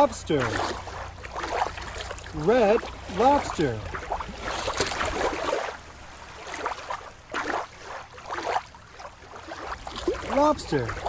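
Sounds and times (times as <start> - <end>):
river water lapping and splashing: 0.0 - 11.0.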